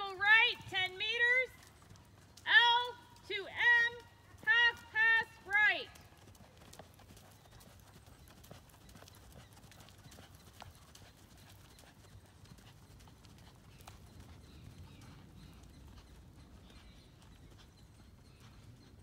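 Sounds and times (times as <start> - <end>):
horse hoofbeats on sand: 0.0 - 19.0.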